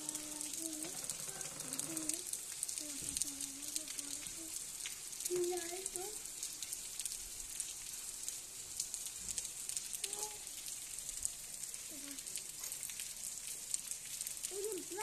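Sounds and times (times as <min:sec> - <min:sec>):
rain hissing on wet street: 0:00.0 - 0:15.0
raindrop ticks: 0:00.0 - 0:15.0.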